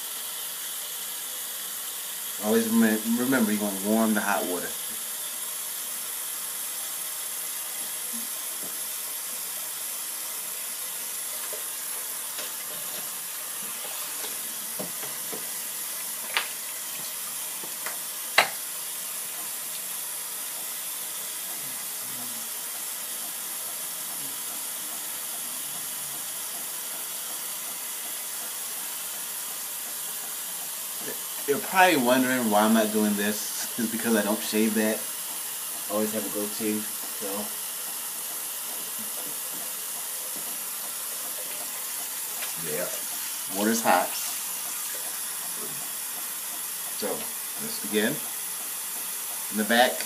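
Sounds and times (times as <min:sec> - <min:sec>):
tap water running into sink: 0:00.0 - 0:50.0.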